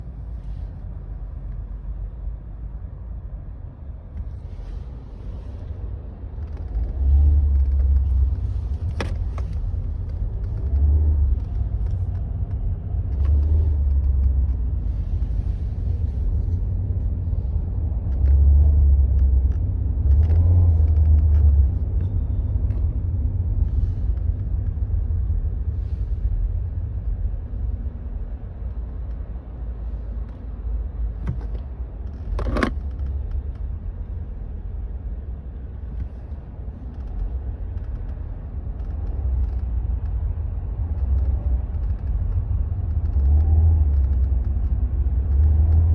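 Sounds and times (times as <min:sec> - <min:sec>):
engine and road rumble: 0:00.0 - 0:45.9.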